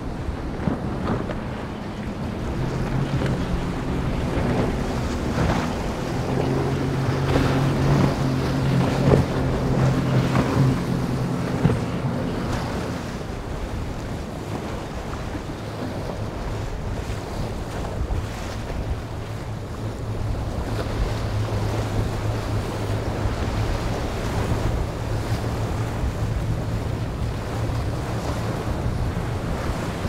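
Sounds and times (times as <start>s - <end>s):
hull rushing through choppy water: 0.0s - 30.0s
motorboat engine running: 0.0s - 30.0s
wind buffeting microphone: 0.0s - 30.0s.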